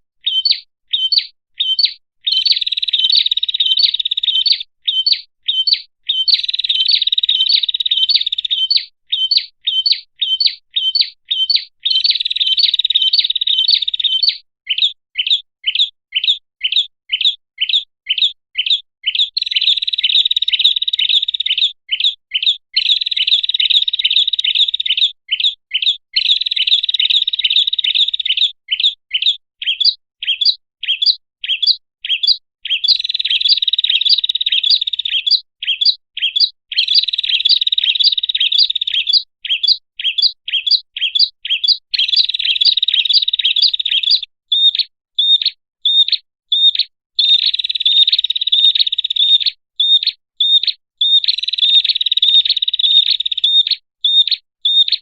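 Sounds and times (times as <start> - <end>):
bird chirping and trilling: 0.2 - 55.0.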